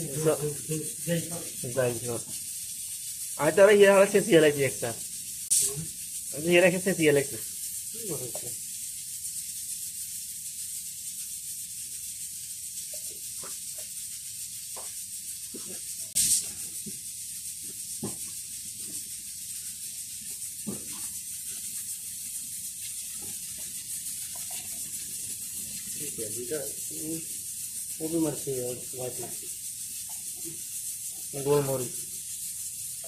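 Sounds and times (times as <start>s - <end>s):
meat and onions sizzling: 0.0s - 33.0s.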